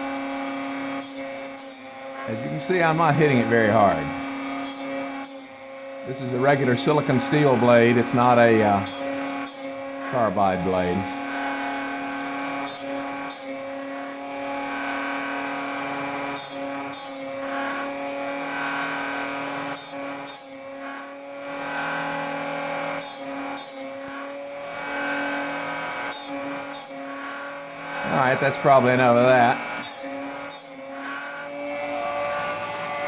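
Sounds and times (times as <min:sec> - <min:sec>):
grinding wheel on metal hissing: 0:00.0 - 0:33.0
rotary tool whining: 0:00.0 - 0:33.0.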